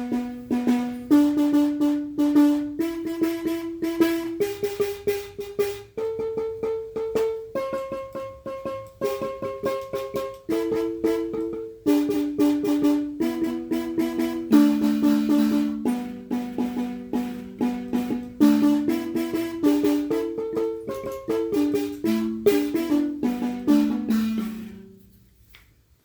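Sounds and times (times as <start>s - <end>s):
wooden xylophone melody: 0.0s - 25.0s.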